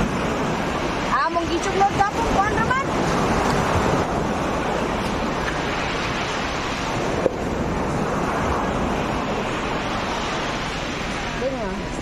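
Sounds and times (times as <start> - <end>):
sea surf rushing: 0.0 - 12.0
wind on microphone: 0.0 - 12.0.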